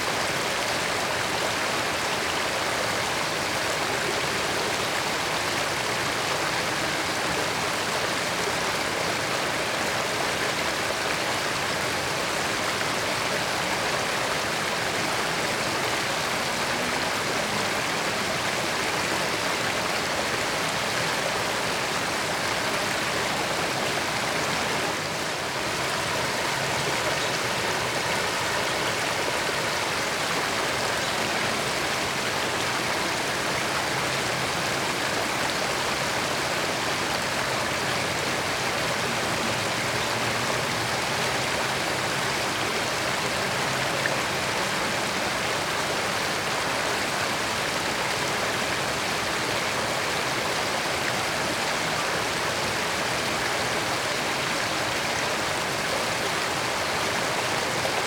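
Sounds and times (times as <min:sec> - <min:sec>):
creek water running over rocks: 0:00.0 - 0:58.0.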